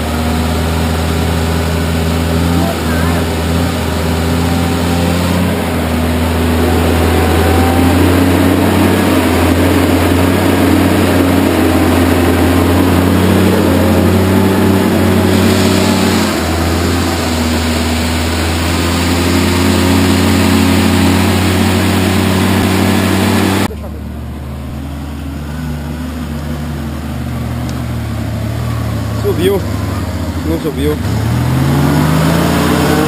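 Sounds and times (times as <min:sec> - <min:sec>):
car engine running at low revs: 0:00.0 - 0:33.0.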